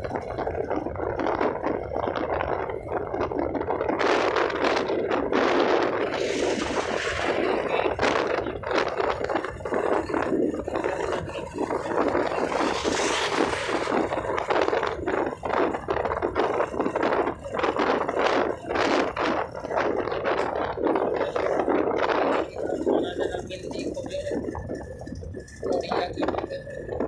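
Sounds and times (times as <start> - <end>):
motorcycle road noise: 0.0 - 27.0
wind buffeting microphone: 0.0 - 27.0.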